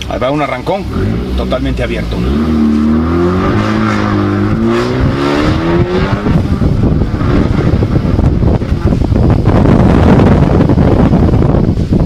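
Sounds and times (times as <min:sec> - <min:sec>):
car engine accelerating hard: 0:00.2 - 0:11.6
wind buffeting microphone: 0:00.9 - 0:12.0.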